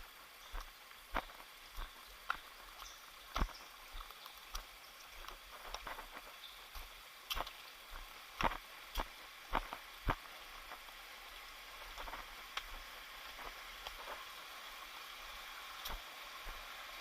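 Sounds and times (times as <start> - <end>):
footsteps on rocky trail: 0.0 - 14.3, 15.8 - 16.7
steady hiss: 0.0 - 17.0.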